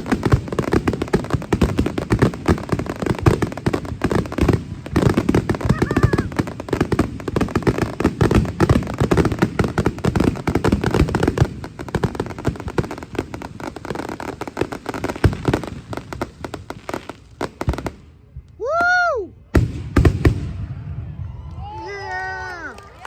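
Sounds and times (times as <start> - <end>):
fireworks banging and crackling: 0.0 - 21.9.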